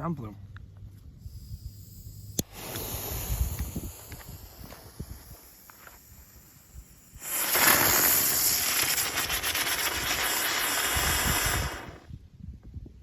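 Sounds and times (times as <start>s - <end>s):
firework spinning with loud hiss: 1.0s - 12.3s.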